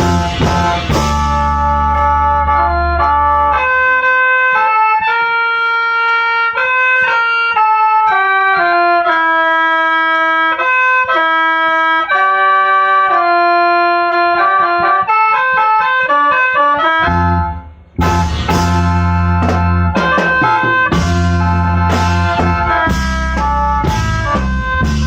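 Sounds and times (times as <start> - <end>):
bamboo mouth organ melody: 0.0 - 25.0.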